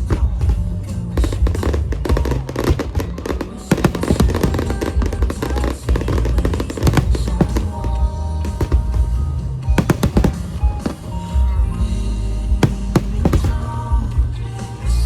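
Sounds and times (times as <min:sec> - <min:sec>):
fireworks bursting and crackling: 0:00.0 - 0:14.8
loud music with heavy bass: 0:00.0 - 0:15.0.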